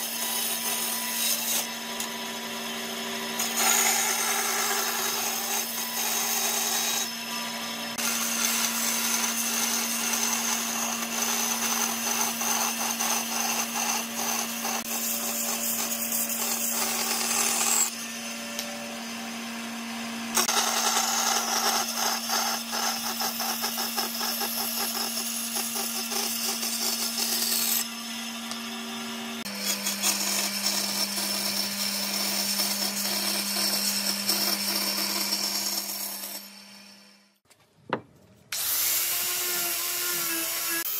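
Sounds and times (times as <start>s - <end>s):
band saw blade rasping through wood: 0.0s - 18.2s, 20.3s - 28.7s, 29.4s - 36.6s
saw motor hum: 0.0s - 37.4s.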